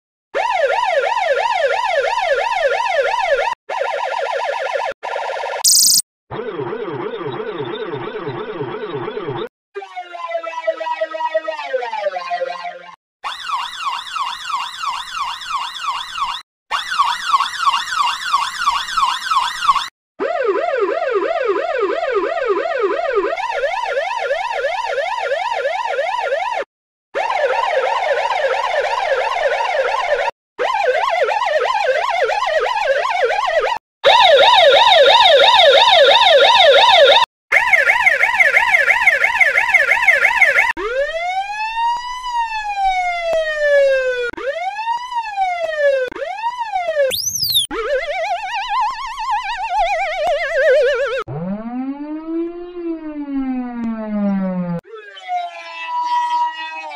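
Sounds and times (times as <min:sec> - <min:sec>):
slow siren wail: 0:00.4 - 0:07.3, 0:09.8 - 0:56.9
ambulance siren yelp: 0:00.4 - 0:56.9.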